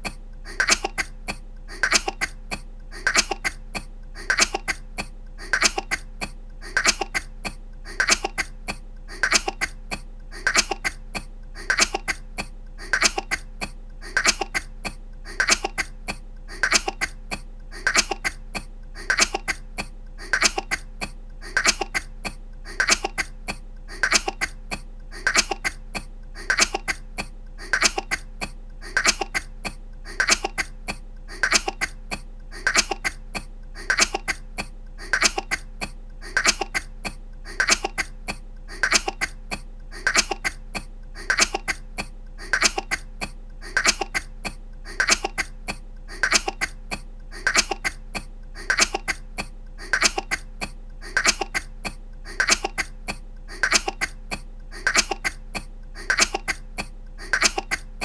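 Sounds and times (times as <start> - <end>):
woman coughing: 0.0 - 57.9.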